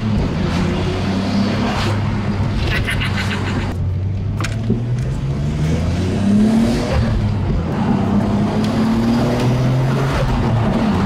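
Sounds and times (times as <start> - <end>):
car engine cruising: 0.0 - 11.0
tyre and road noise: 0.0 - 11.0.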